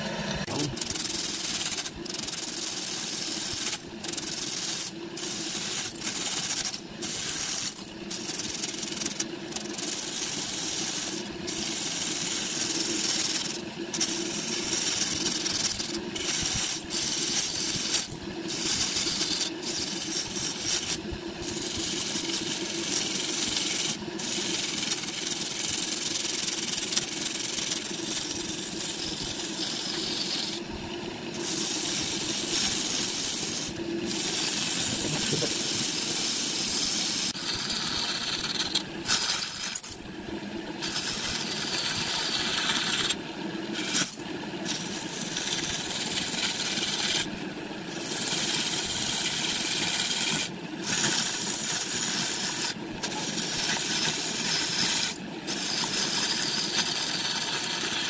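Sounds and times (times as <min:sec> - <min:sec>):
tool scraping wood on lathe: 0:00.5 - 0:30.7, 0:31.3 - 0:39.9, 0:40.8 - 0:43.2, 0:43.8 - 0:58.0.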